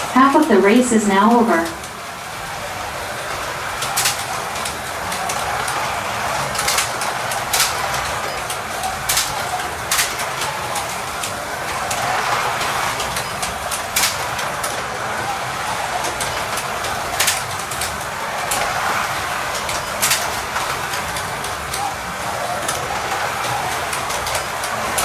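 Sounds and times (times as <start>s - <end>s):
slot car motors whirring: 0.0s - 25.0s
slot cars clicking on track: 0.0s - 25.0s.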